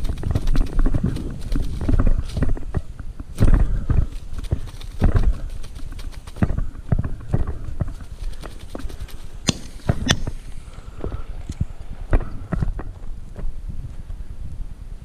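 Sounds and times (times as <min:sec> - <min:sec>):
sharp cracks: 0:00.0 - 0:13.4.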